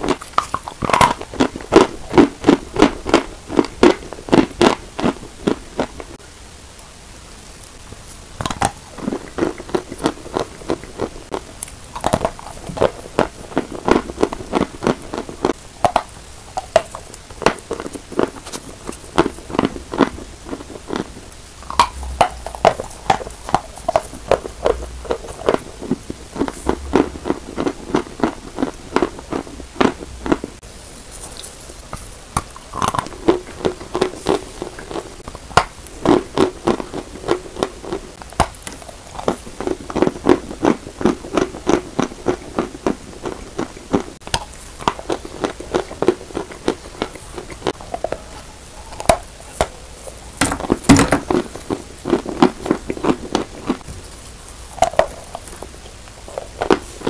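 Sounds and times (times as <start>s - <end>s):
person chewing crunchy chalk: 0.0s - 6.2s, 8.1s - 57.0s.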